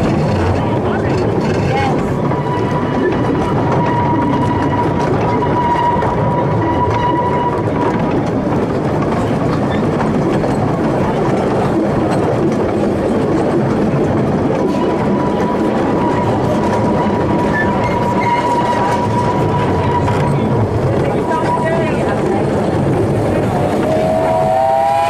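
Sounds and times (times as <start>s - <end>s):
train wheels rumbling and rattling: 0.0s - 25.0s.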